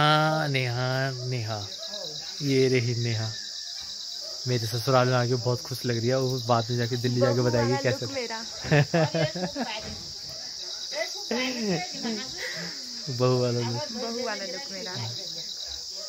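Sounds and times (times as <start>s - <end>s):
people's voices: 0.0s - 3.4s, 4.4s - 15.8s
crickets chirring: 0.0s - 16.0s.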